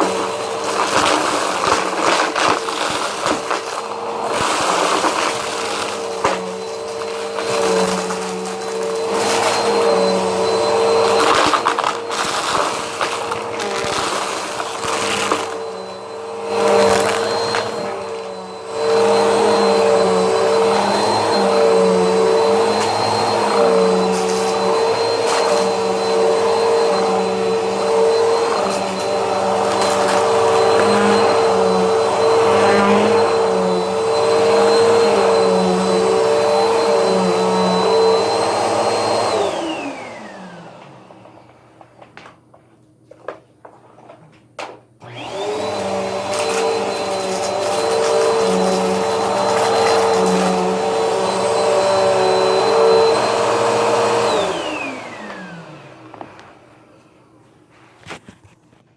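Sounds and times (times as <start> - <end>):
vacuum cleaner motor whining: 0.0 - 58.5.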